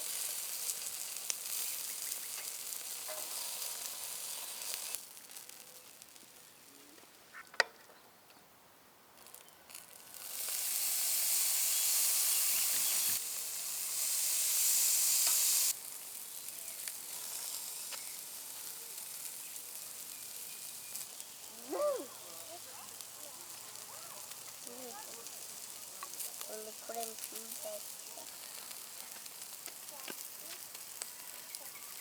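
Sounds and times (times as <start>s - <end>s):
food sizzling in hot fat: 0.0s - 7.4s, 9.2s - 32.0s.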